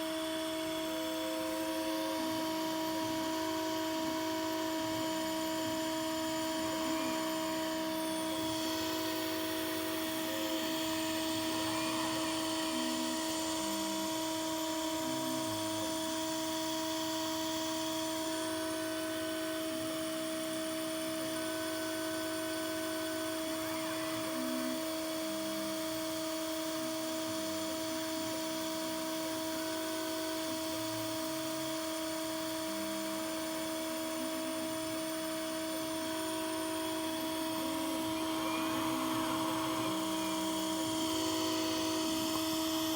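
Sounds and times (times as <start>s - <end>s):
steady hum: 0.0s - 42.9s
stepper motor tones: 0.0s - 42.9s.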